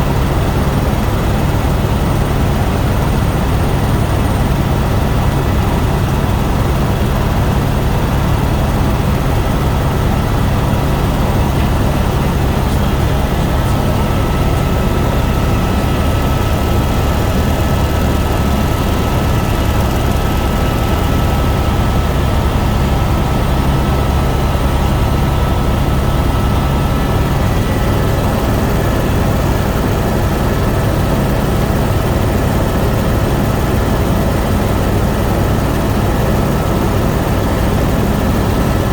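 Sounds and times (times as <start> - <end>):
helicopter drone with whine: 0.0 - 38.9.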